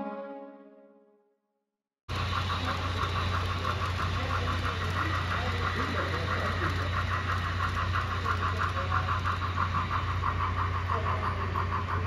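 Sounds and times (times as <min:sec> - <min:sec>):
model steam locomotive chuffing: 0:02.1 - 0:12.0.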